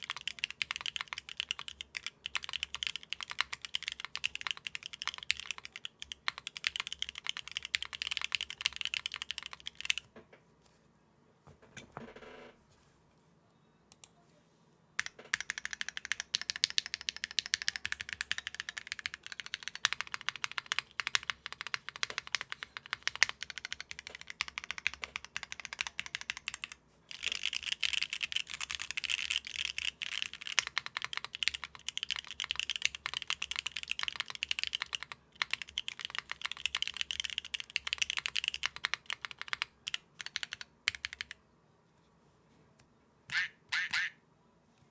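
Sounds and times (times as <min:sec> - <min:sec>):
typing on mechanical keyboard: 0:00.0 - 0:10.1, 0:15.0 - 0:41.4.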